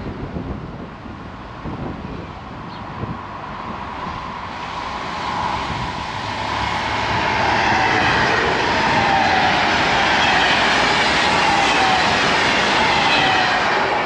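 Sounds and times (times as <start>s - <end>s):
train passing: 2.4s - 14.0s.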